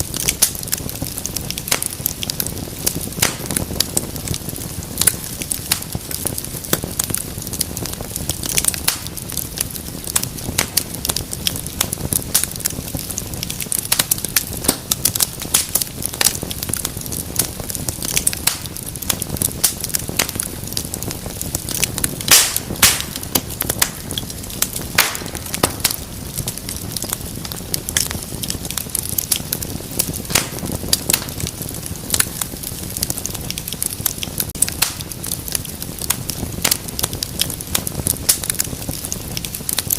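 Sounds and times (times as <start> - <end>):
loud pops from fire: 0.0 - 39.9
low rumble of flames: 0.0 - 39.9
wood fire crackling: 0.0 - 39.9.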